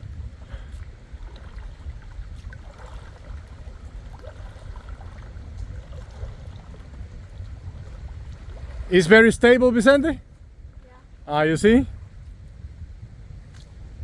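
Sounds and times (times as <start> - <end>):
water lapping and splashing: 0.0 - 14.0
wind buffeting microphone: 0.0 - 14.0.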